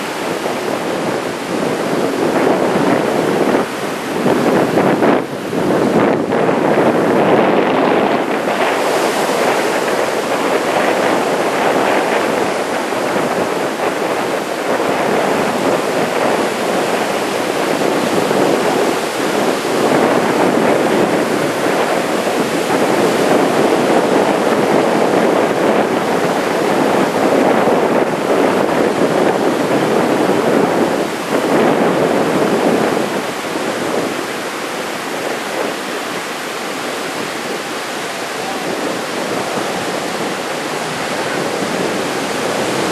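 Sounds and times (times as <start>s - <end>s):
heavy surf breaking on beach: 0.0s - 42.9s
wind on microphone: 0.0s - 42.9s.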